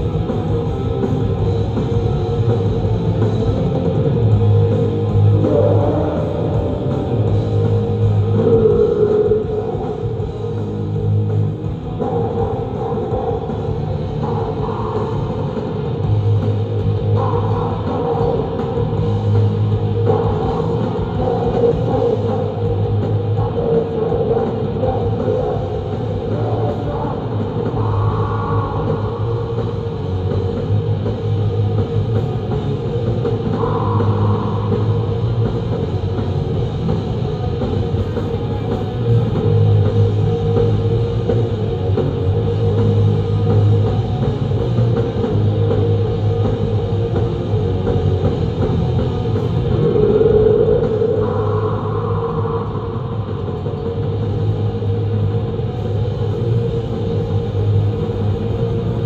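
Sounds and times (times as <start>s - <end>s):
distorted guitars: 0.0s - 59.0s
pounding drum kit: 0.0s - 59.0s.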